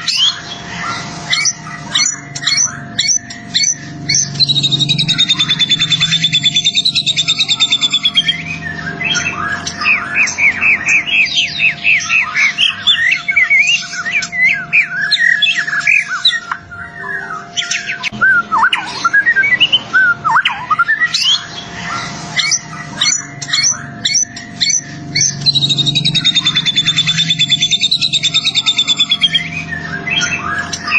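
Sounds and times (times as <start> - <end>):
bird singing whistled notes: 0.0 - 30.9.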